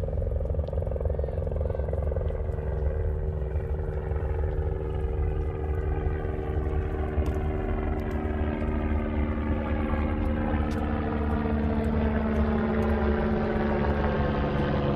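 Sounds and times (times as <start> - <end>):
engine drone: 0.0 - 14.9
low wind rumble: 0.0 - 14.9.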